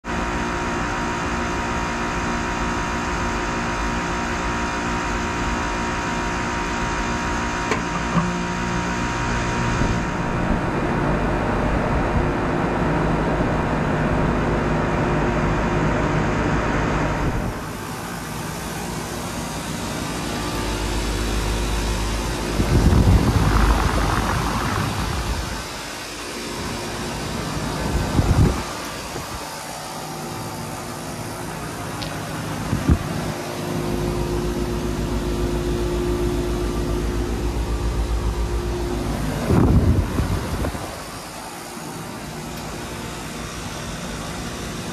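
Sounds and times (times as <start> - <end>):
condenser fan and compressor hum: 0.0 - 44.9
louder condenser hum: 0.1 - 44.9.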